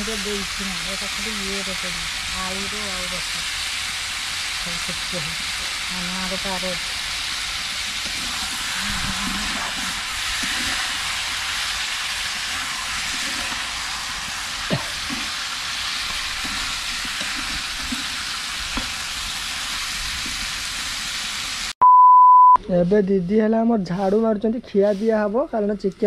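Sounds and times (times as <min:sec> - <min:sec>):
chicken sizzling in pan: 0:00.0 - 0:21.8.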